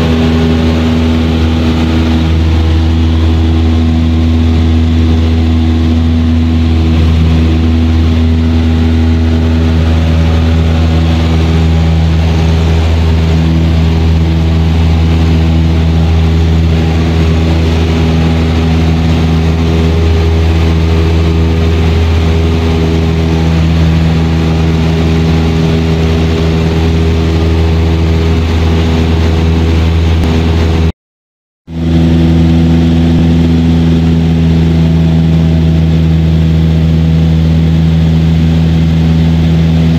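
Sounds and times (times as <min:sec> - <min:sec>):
airplane engine and propeller droning: 0:00.0 - 0:30.9, 0:31.7 - 0:39.9.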